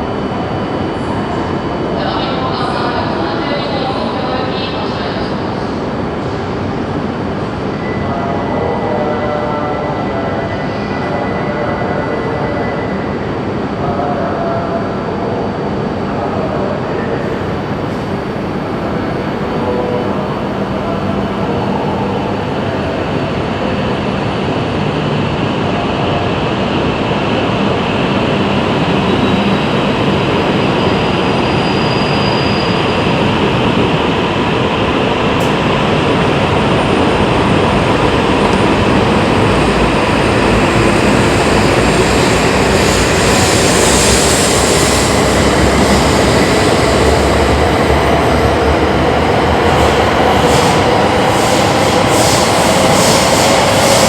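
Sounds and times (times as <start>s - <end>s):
bullet train running noise: 0.0s - 54.0s.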